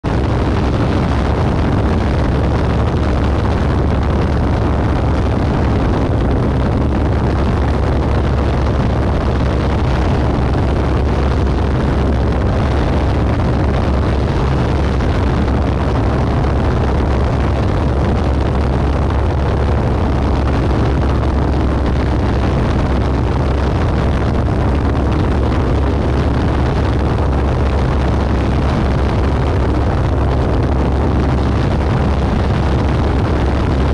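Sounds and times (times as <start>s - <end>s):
propeller airplane engine drone: 0.0s - 33.9s
wind rush on microphone: 0.0s - 33.9s.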